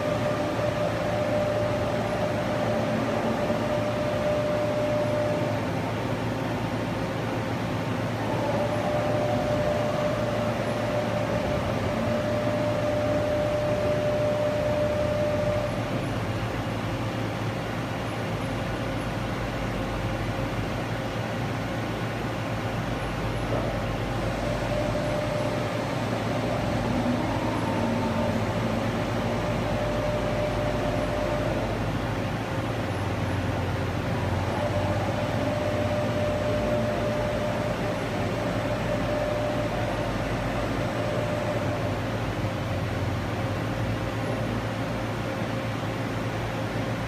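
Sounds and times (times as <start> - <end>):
machine drive whine: 0.0 - 47.0
machine hum: 0.0 - 47.0.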